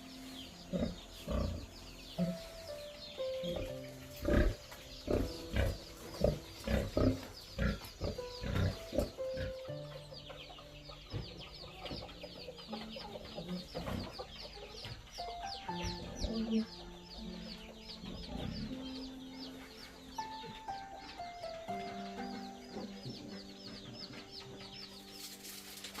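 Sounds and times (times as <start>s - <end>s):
birds chirping: 0.0s - 26.0s
soft background music: 0.0s - 26.0s.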